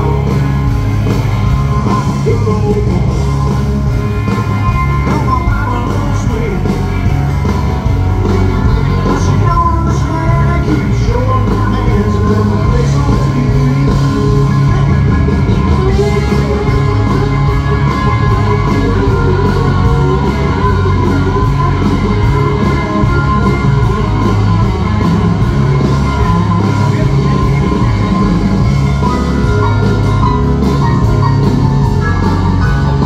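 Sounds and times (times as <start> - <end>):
bass: 0.0 - 33.0
electric guitars: 0.0 - 33.0
steady drum beat: 0.0 - 33.0.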